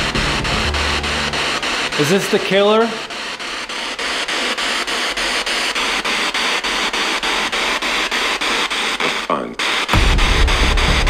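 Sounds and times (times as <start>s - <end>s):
radio static sweeping: 0.0s - 11.0s.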